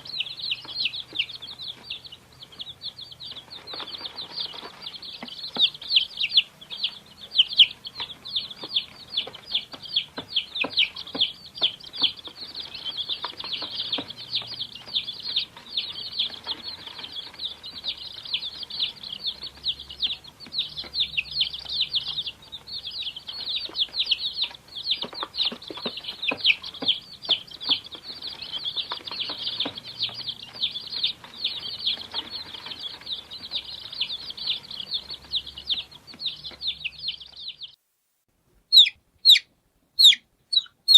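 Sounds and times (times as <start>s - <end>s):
chicks peeping: 0.0s - 37.8s, 38.6s - 40.9s.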